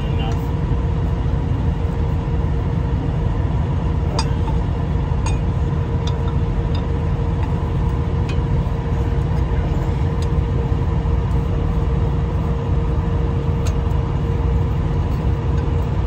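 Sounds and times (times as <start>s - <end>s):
low rumble with hum: 0.0s - 16.0s.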